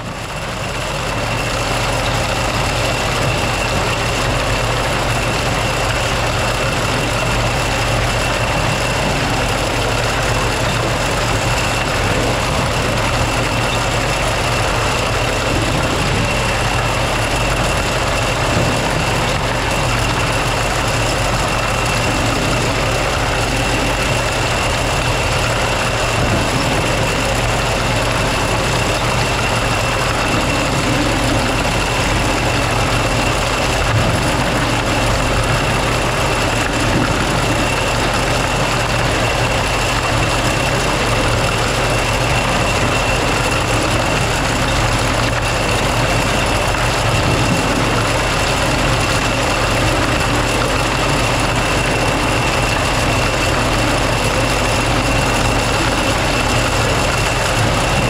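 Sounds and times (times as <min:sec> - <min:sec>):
harvest machinery engine running: 0:00.0 - 0:58.0
steady high whine: 0:00.0 - 0:58.0.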